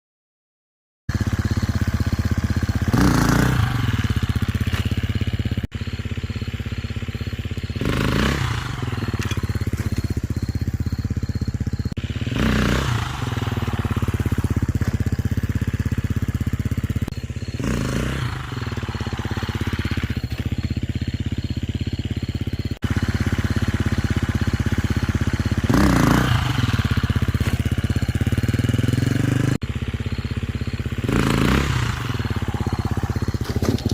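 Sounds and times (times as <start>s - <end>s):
dirt bike engine revving: 1.1s - 33.9s.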